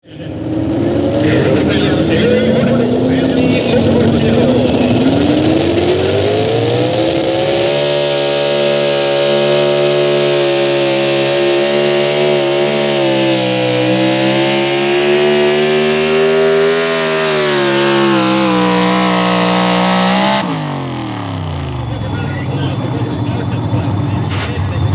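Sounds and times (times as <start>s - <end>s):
truck engine at high revs: 0.0s - 24.9s.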